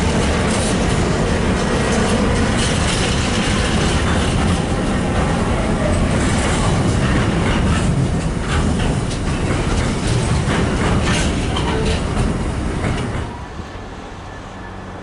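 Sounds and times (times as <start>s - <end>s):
freight train wheels clattering: 0.0s - 13.5s.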